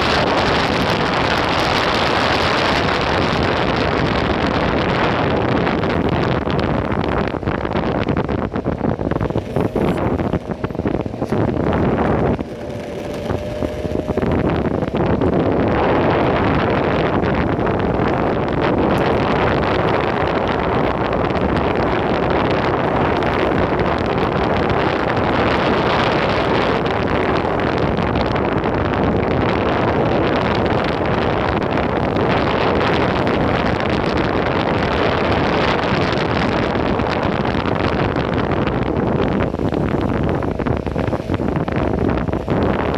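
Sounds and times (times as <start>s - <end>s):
skateboard wheels rolling on pavement: 0.0s - 42.9s
wind buffeting microphone: 0.0s - 42.9s.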